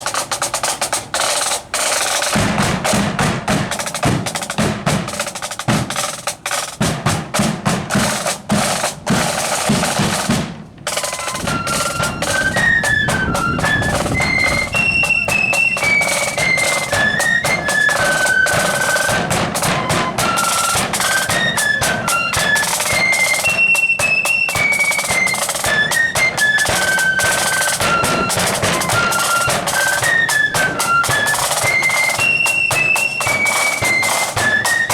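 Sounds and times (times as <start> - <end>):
flutes playing a tune: 0.0 - 34.9
snare drum rolls: 0.0 - 34.9.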